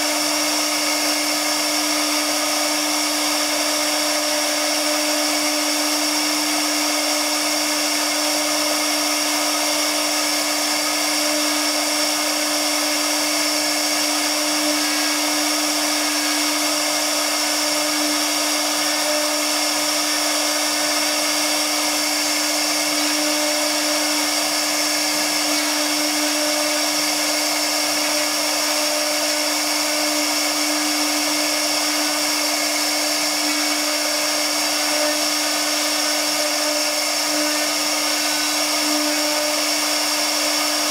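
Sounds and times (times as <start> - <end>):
hiss of cutting wood: 0.0 - 40.9
router spindle whining: 0.0 - 40.9.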